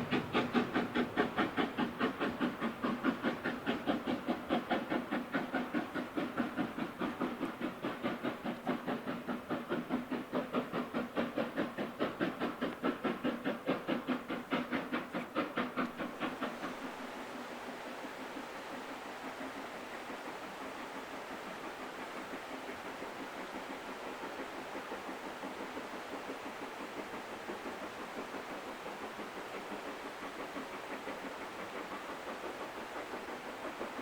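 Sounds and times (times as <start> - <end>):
steam locomotive chuffing: 0.0 - 34.0.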